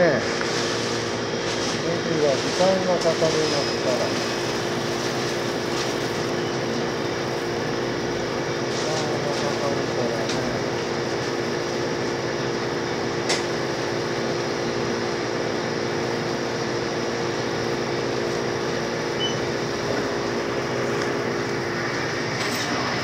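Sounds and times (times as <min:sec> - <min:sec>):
cooling machinery hum: 0:00.0 - 0:23.0.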